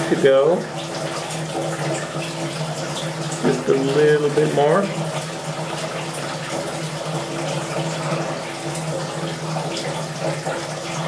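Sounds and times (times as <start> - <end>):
pump humming: 0.0 - 11.0
water running and splashing: 0.0 - 11.0.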